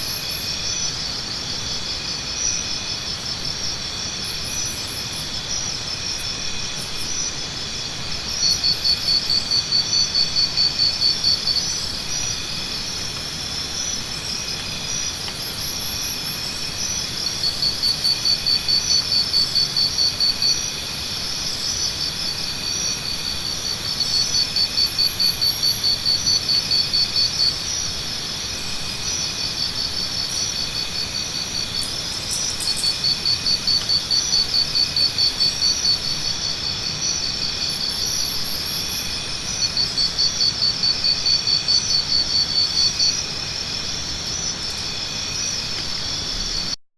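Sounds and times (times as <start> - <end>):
insects chirring: 0.0 - 46.8
rapid pulsing insect trill: 0.0 - 46.8.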